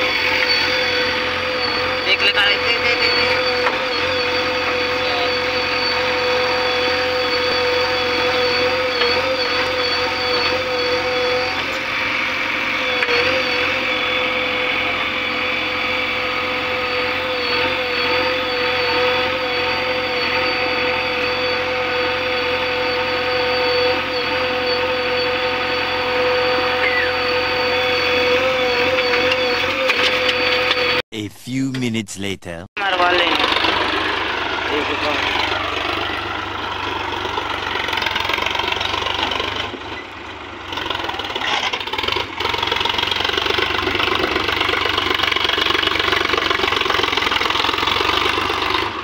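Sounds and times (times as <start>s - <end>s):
diesel engine running with whine: 0.0s - 31.0s, 32.8s - 49.0s.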